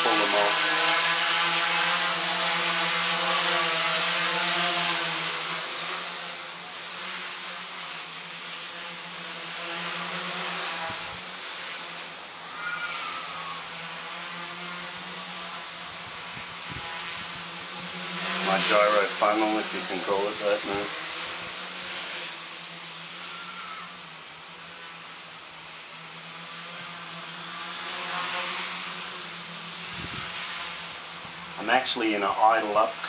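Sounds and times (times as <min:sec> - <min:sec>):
tricopter motors buzzing: 0:00.0 - 0:33.0.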